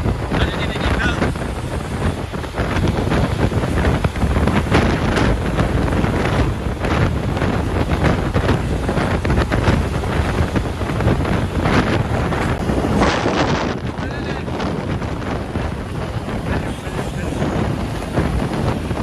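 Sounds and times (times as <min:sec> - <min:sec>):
traffic noise: 0:00.0 - 0:19.0
wind buffeting microphone: 0:00.0 - 0:19.0.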